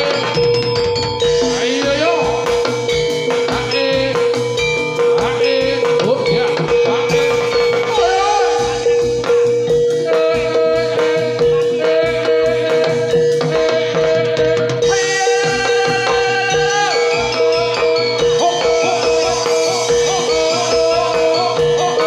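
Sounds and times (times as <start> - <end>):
person singing: 0.0 - 0.6, 1.3 - 22.0
drum strokes: 0.0 - 22.0
held tone: 0.0 - 22.0
ringing metallophone notes: 0.0 - 22.0.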